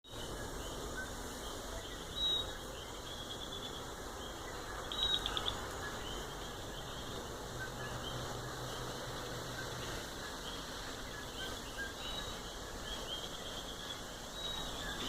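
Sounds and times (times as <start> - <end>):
frogs and insects chorus: 0.1 - 15.0.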